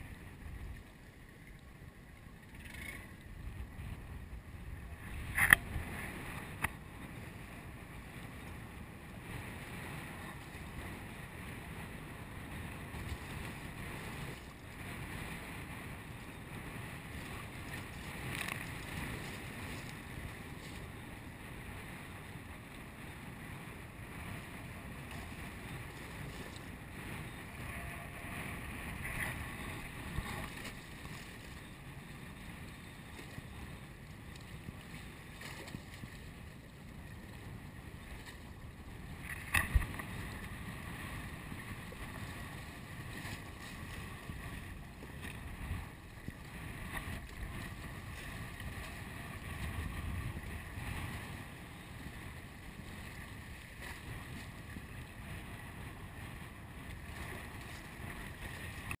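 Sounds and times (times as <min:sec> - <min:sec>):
wind buffeting microphone: 0:03.3 - 0:59.0.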